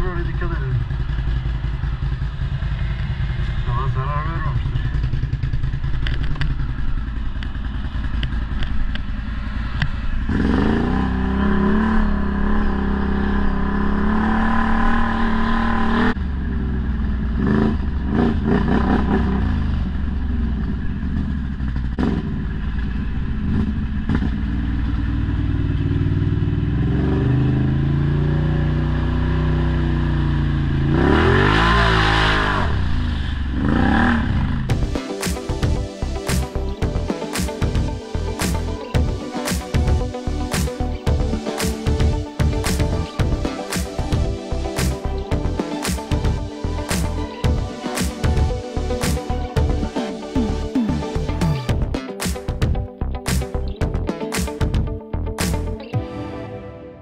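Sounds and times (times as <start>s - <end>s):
atv engine revving: 0.0s - 52.0s.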